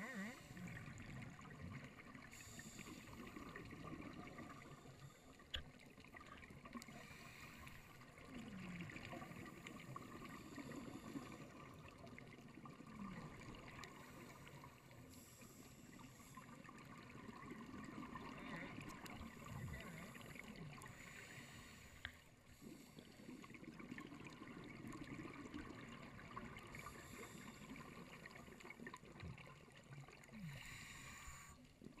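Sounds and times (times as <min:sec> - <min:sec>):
underwater bubbles gurgling: 0:00.0 - 0:32.0.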